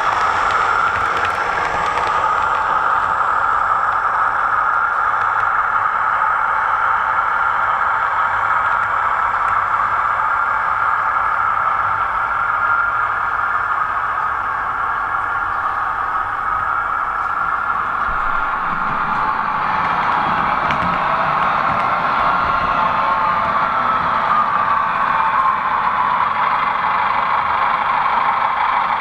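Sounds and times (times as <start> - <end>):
clicking over rails: 0.0 - 29.0
model train whirring: 0.0 - 29.0.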